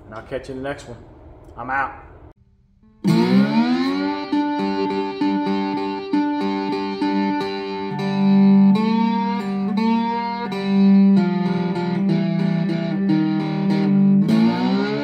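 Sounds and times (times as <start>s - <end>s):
plucked guitar notes: 2.8s - 15.0s.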